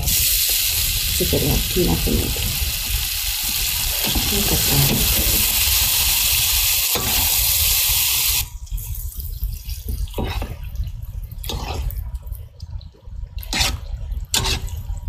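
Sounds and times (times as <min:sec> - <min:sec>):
frying sizzle in a pan: 0:00.0 - 0:12.4, 0:13.4 - 0:15.0
cooking swishes: 0:00.0 - 0:15.0.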